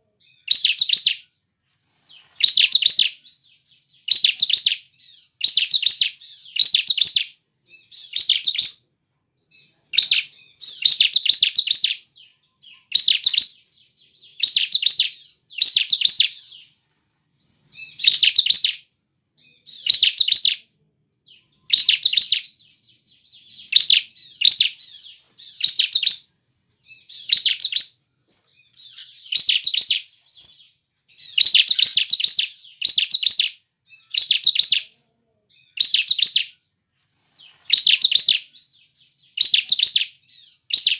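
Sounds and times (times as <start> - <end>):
bird song rapid high chirping: 0.0 - 40.9.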